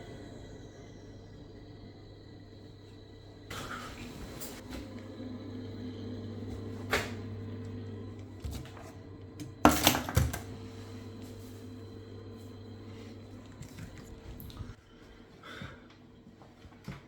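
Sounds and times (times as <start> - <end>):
boiler humming: 0.0 - 17.0.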